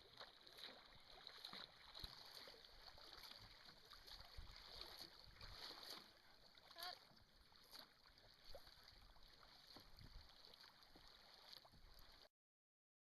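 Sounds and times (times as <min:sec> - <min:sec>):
faint water noise: 0:00.0 - 0:12.3.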